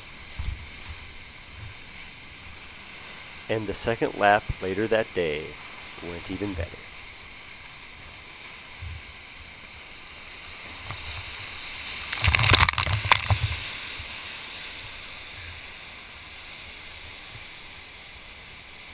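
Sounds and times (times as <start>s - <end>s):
whitewater rushing: 0.0s - 18.9s.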